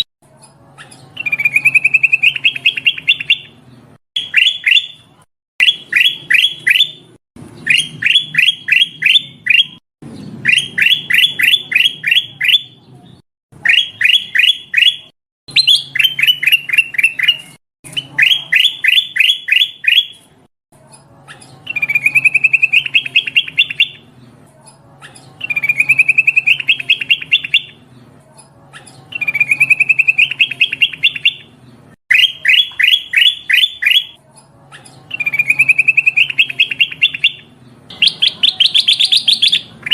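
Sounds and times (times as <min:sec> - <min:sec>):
bulbul chirping and trilling: 0:00.0 - 0:12.8, 0:13.6 - 0:20.3, 0:21.2 - 0:24.1, 0:25.0 - 0:27.8, 0:28.7 - 0:39.9.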